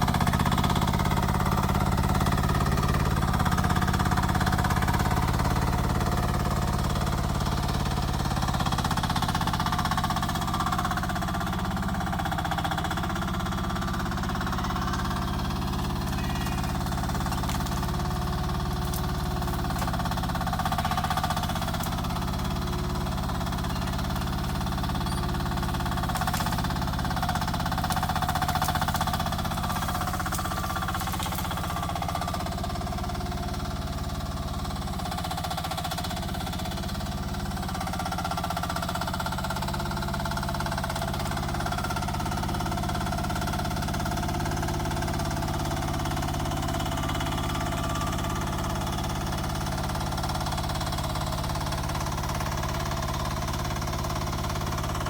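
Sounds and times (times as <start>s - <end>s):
mini excavator engine running: 0.0s - 55.0s.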